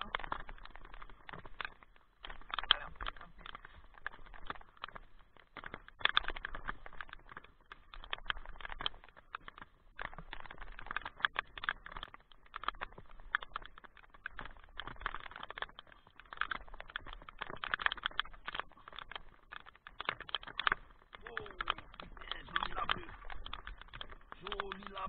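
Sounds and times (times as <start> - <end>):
rain tapping on camera: 0.0 - 25.0.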